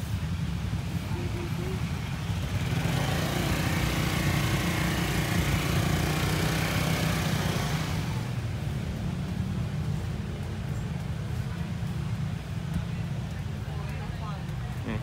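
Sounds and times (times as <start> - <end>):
scooter engine running: 1.2 - 13.3.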